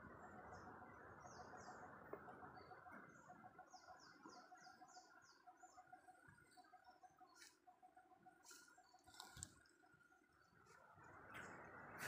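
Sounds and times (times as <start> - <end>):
birds chirping: 0.0 - 12.0
faint pulsing hum: 0.0 - 12.0.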